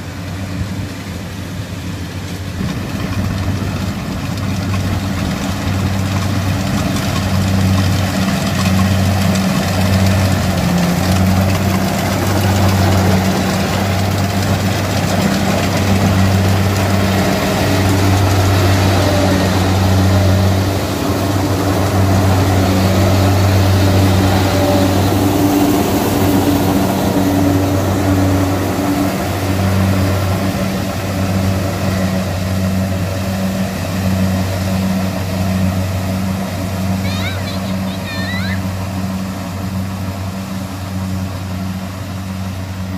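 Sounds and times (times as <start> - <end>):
broad mechanical rush: 0.0 - 42.9
combine harvester engine drone: 0.0 - 42.9.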